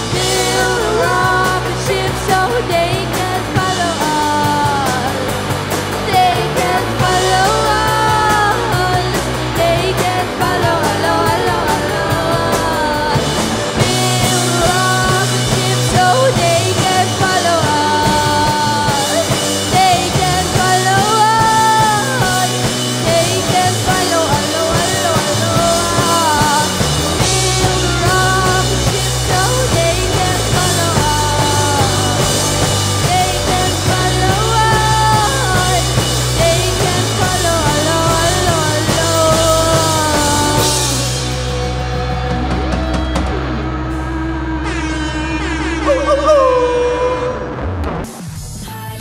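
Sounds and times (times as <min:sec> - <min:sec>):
woman singing: 0:00.0 - 0:05.4, 0:06.0 - 0:41.2
live rock band: 0:00.0 - 0:49.0.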